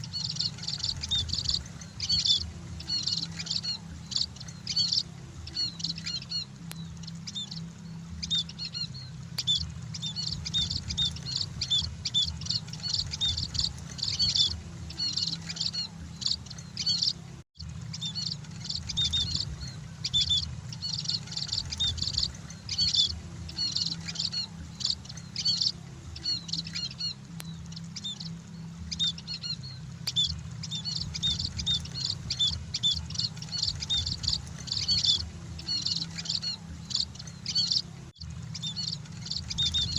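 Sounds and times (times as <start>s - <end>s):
flock of birds twittering: 0.0s - 39.9s
steady low hum: 0.0s - 39.9s.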